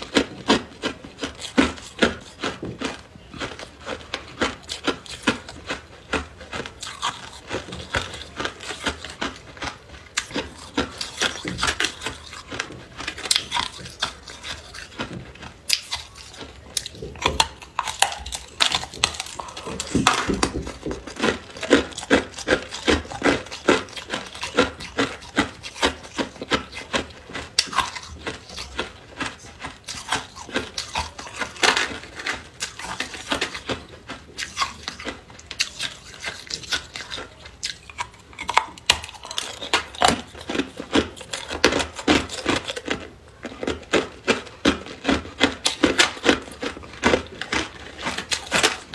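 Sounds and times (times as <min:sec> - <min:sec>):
person chewing hard ice: 0:00.0 - 0:48.9.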